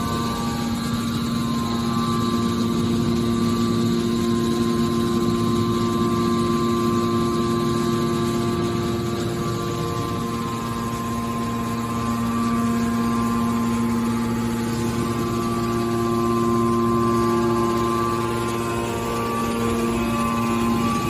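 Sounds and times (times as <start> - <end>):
hydraulic pump motor humming: 0.0 - 21.0.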